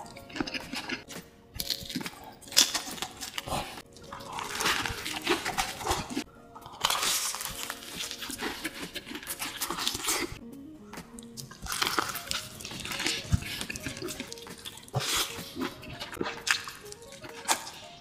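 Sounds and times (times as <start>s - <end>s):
crunchy chewing: 0.0s - 10.4s, 11.2s - 18.0s.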